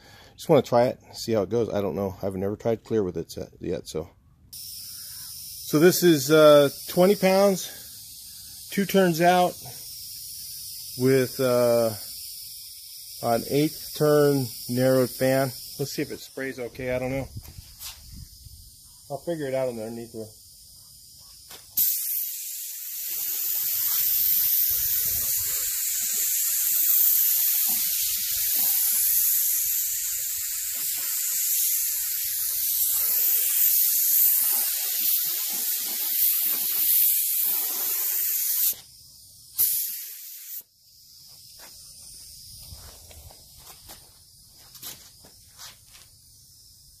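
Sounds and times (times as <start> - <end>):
spray gun hissing: 4.6 - 47.0.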